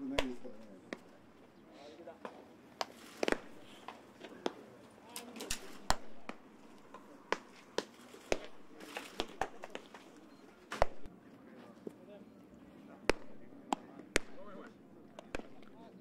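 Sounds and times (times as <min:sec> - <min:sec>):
baseballs popping into leather mitts: 0:00.1 - 0:01.4, 0:02.2 - 0:11.1, 0:13.1 - 0:15.9.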